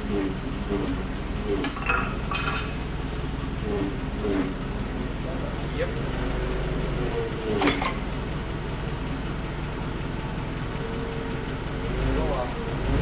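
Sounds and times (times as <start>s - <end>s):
forklift engine idling: 0.0s - 13.0s.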